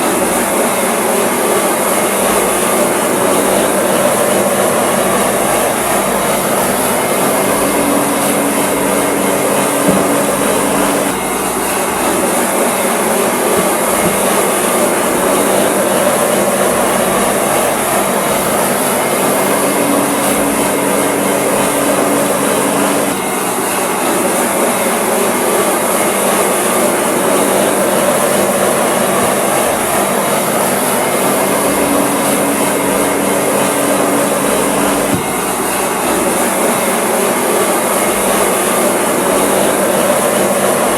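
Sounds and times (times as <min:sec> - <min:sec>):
construction machinery noise: 0:00.0 - 0:40.9.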